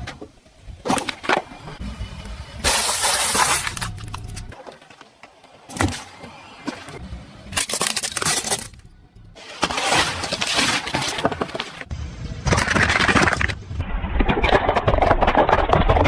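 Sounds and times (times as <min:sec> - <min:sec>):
car tyres crushing objects: 0:00.0 - 0:16.0.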